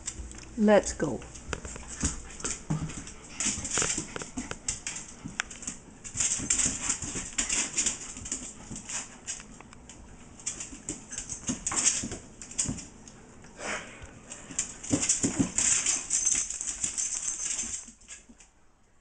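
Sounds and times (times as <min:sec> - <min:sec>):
animals scuffling on tile floor: 0:00.0 - 0:18.5.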